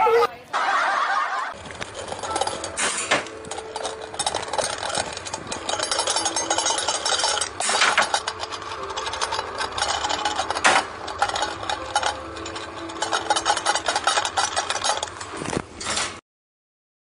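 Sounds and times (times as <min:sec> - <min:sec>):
bird beak scraping metal bolt: 0:02.1 - 0:16.2.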